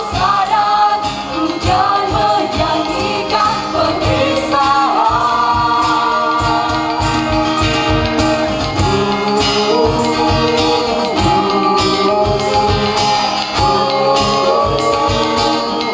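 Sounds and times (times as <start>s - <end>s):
group of voices singing: 0.0s - 15.9s
instrumental accompaniment: 0.0s - 15.9s.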